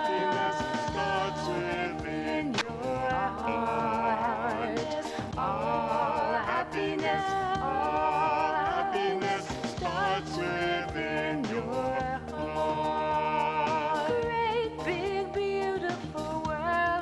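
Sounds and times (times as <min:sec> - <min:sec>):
singing voices holding long notes: 0:00.0 - 0:17.0.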